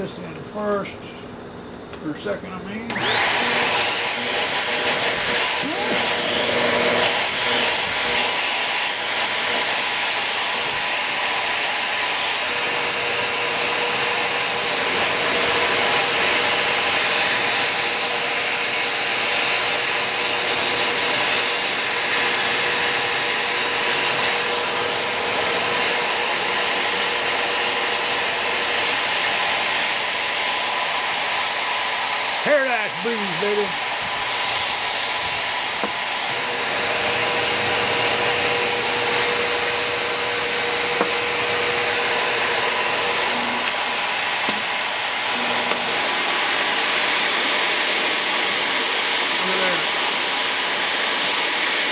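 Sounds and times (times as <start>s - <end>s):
vacuum cleaner motor: 2.9s - 51.9s.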